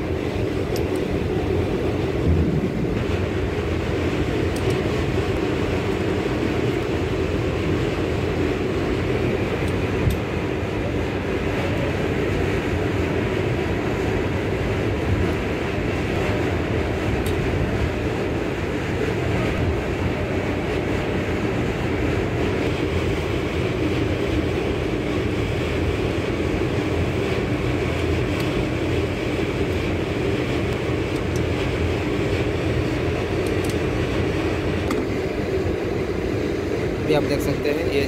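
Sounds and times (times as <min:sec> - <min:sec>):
low background rumble: 0:00.0 - 0:38.0.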